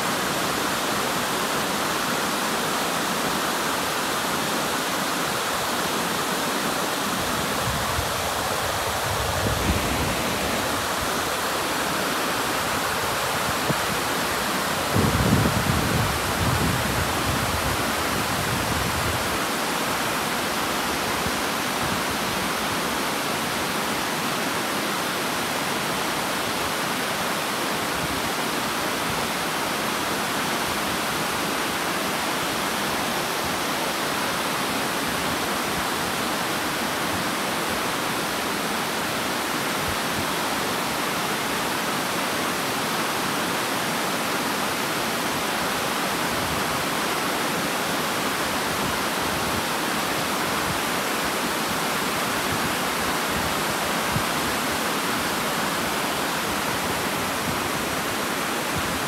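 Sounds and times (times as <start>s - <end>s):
water rushing down rocks: 0.0s - 59.0s.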